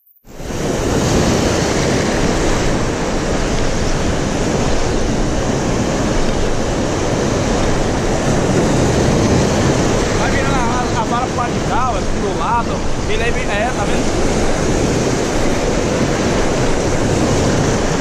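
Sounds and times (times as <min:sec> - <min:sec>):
surf breaking over rocks: 0:00.3 - 0:18.0
wind buffeting microphone: 0:00.3 - 0:18.0.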